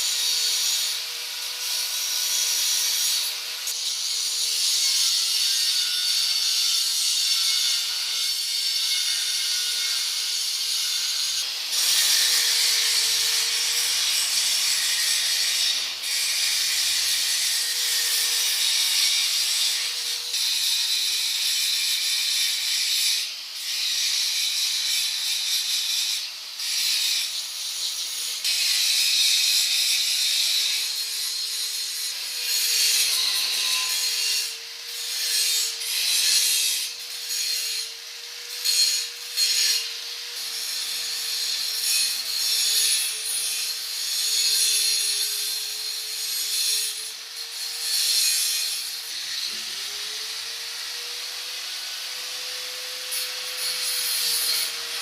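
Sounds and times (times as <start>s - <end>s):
angle grinder grinding steel: 0.0s - 55.0s.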